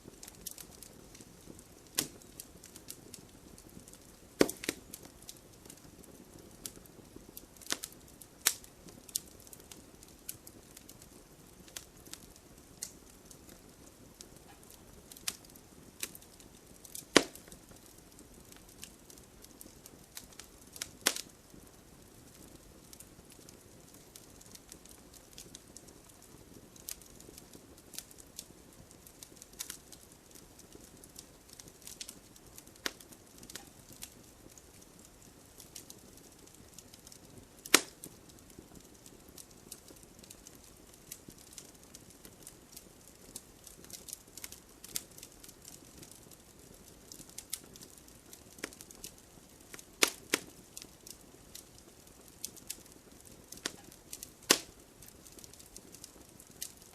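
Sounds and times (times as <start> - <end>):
faint hiss of burning: 0.0 - 56.9
wood fire crackling and popping: 0.0 - 56.9.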